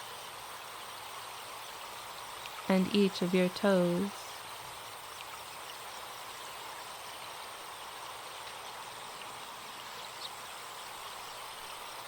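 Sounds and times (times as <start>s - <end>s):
forest stream running: 0.0s - 12.0s.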